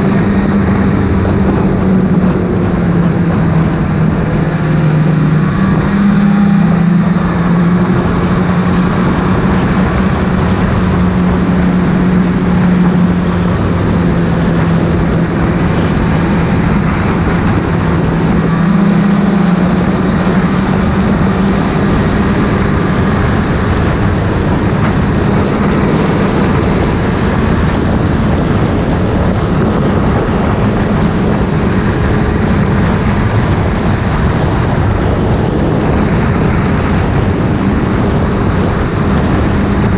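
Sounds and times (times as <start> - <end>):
snowmobile engine running: 0.0 - 39.9
steady rushing noise: 0.0 - 39.9.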